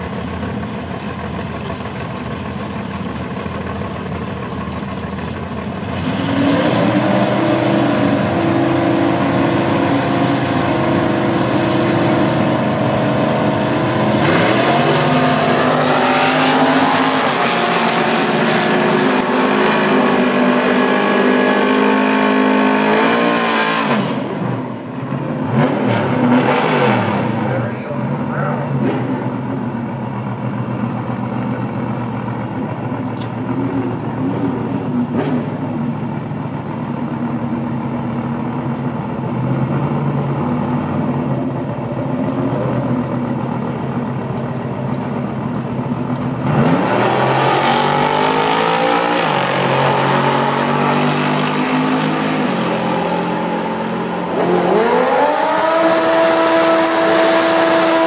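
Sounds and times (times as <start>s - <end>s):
drag car engine revving: 0.0s - 58.0s.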